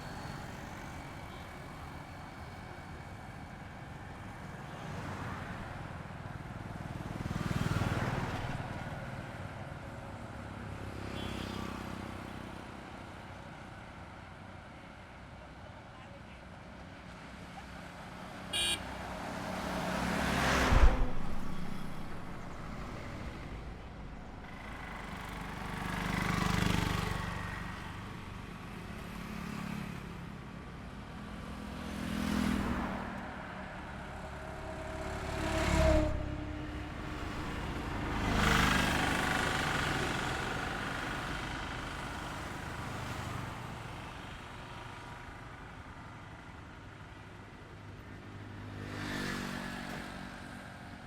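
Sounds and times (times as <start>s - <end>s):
vehicles passing on highway: 0.0s - 51.0s.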